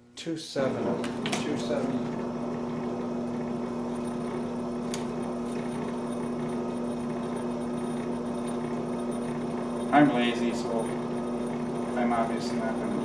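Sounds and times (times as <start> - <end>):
electric motor hum: 0.6 - 13.0.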